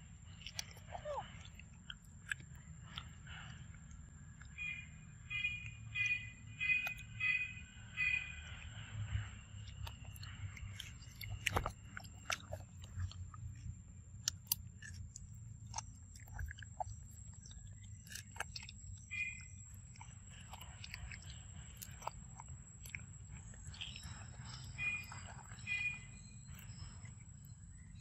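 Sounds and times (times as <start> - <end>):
monkey chewing soft fruit: 0.0 - 28.0.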